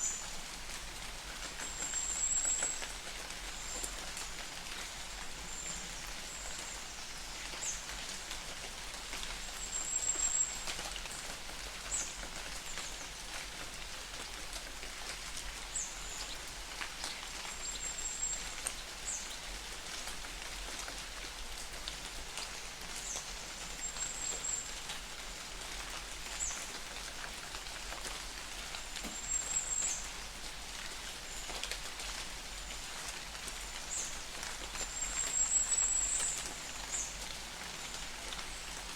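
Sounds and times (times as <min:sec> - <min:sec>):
light rain pattering: 0:00.0 - 0:38.9.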